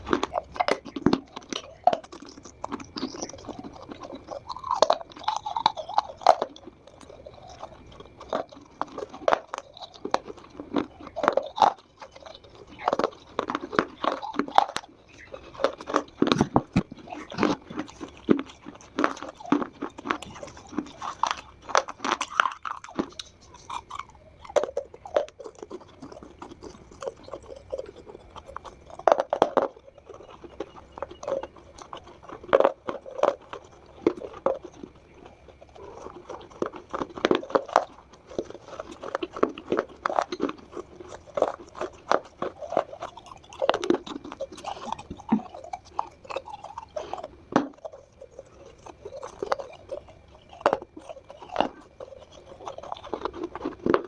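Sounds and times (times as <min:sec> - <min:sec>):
crunchy chewing of dry clay: 0:00.0 - 0:54.0.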